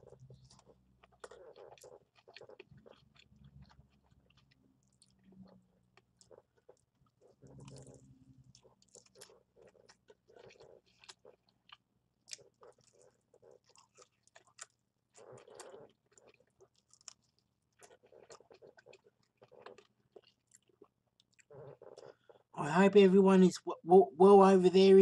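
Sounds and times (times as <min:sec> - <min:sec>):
chewing fried chicken: 0:00.0 - 0:22.5.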